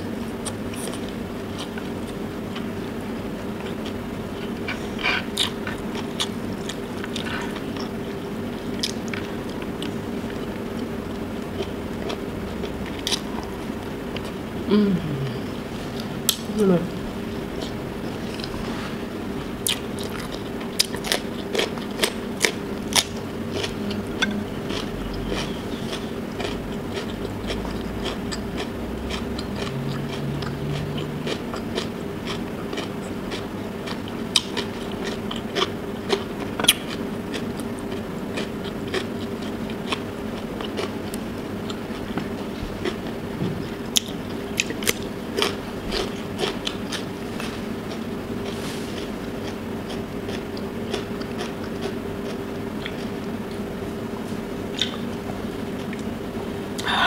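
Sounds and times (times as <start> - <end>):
steady low hum: 0.0 - 57.0
crunching and chewing cucumber: 0.4 - 2.7, 3.6 - 14.4, 17.3 - 18.8, 19.6 - 53.7.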